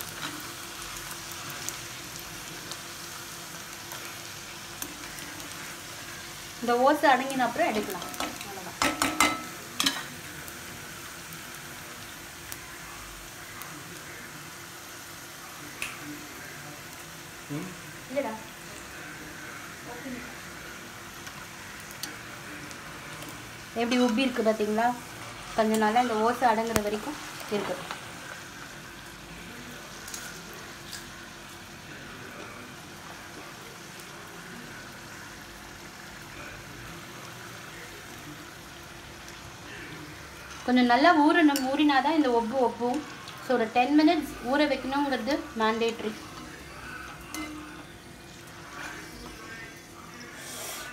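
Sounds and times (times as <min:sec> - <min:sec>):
oil sizzling and crackling: 0:00.0 - 0:50.9.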